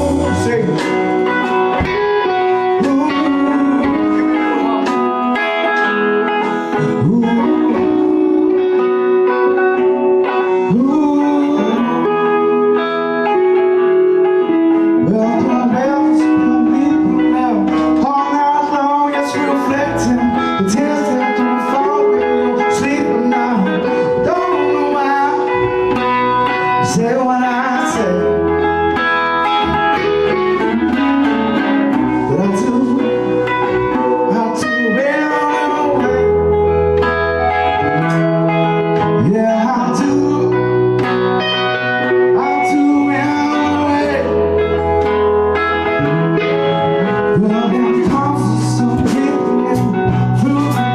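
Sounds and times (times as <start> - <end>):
blues-rock band playing: 0.0 - 50.9
electric guitar bending notes: 0.0 - 50.9.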